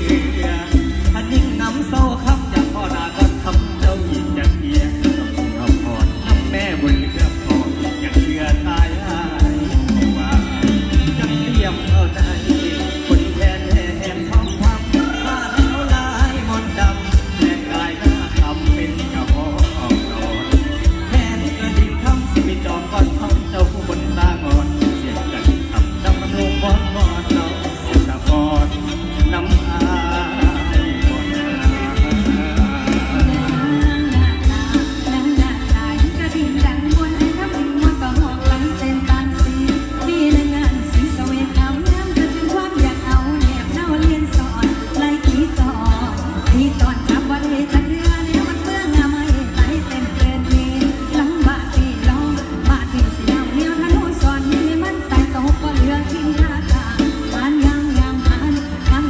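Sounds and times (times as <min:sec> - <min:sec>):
driving drum beat: 0:00.0 - 0:59.0
live band music through loudspeakers: 0:00.0 - 0:59.0
person singing: 0:00.0 - 0:59.0.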